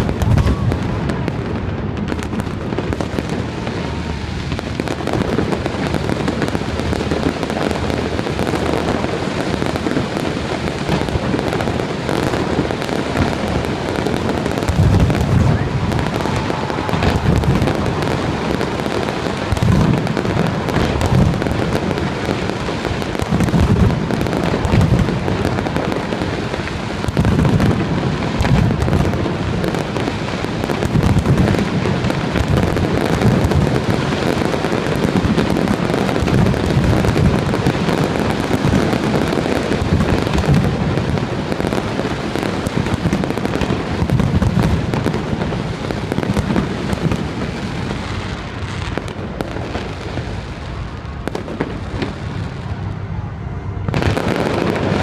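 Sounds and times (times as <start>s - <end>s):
fireworks booming: 0.0s - 55.0s
fireworks crackling: 0.0s - 55.0s.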